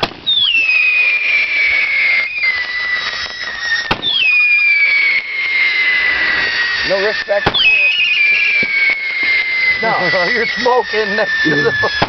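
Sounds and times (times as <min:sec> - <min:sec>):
firework crack: 0:00.0 - 0:12.0
firework whistles: 0:00.0 - 0:12.0.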